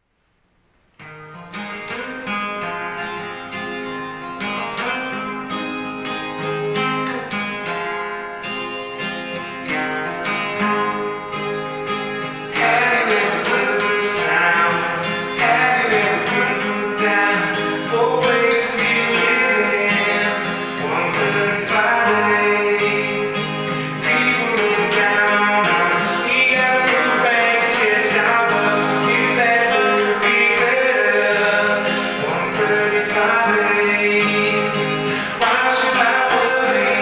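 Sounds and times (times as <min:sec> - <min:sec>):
twelve-string acoustic guitar: 0:00.8 - 0:37.0.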